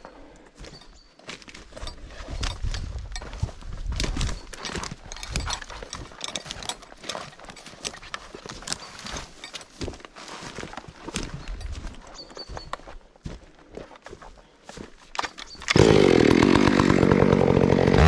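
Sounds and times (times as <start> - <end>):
footsteps crunching through dry brush: 0.0 - 16.9.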